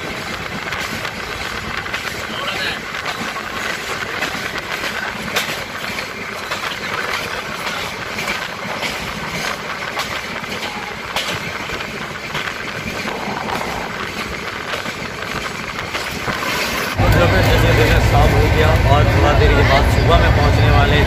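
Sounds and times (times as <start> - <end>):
clacks at rail joints: 0.0 - 21.0
train wheels rumbling on rails: 0.0 - 21.0.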